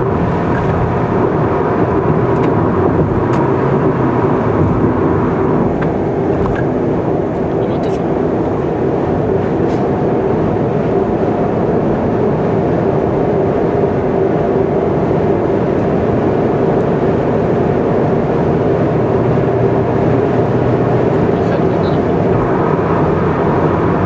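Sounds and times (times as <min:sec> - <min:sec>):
car tyre and engine noise: 0:00.0 - 0:24.0.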